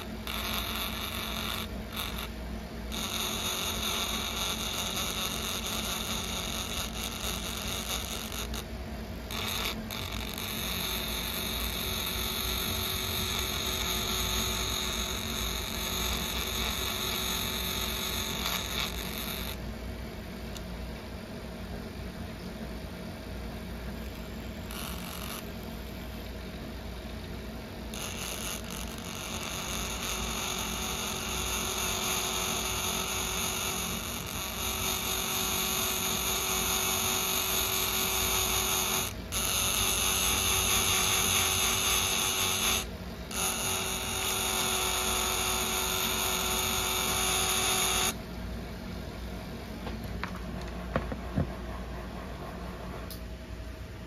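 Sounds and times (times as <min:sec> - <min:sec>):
small electric motor whining: 0:00.0 - 0:19.6, 0:23.8 - 0:48.2.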